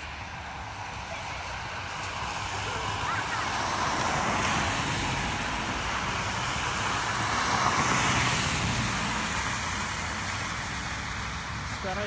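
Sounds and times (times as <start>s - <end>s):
distant road traffic: 0.0s - 12.0s.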